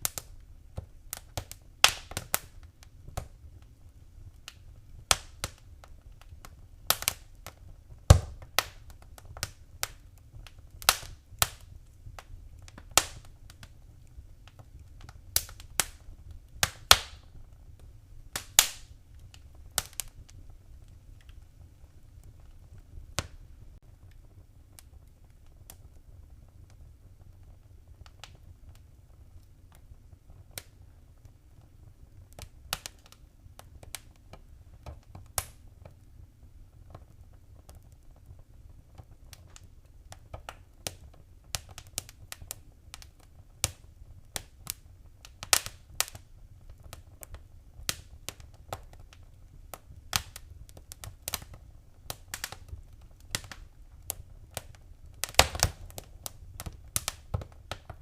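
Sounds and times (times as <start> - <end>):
low rumble of flame: 0.0 - 58.0
wood fire crackling: 0.0 - 58.0.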